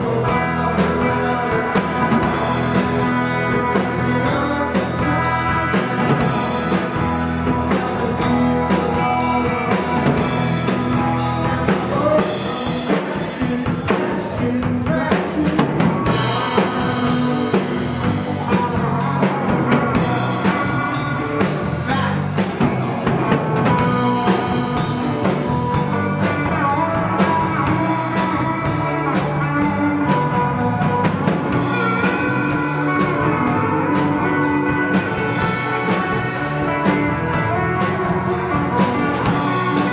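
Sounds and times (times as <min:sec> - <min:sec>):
drum kit beat: 0:00.0 - 0:39.9
electric bass: 0:00.0 - 0:39.9
electric guitars: 0:00.0 - 0:39.9.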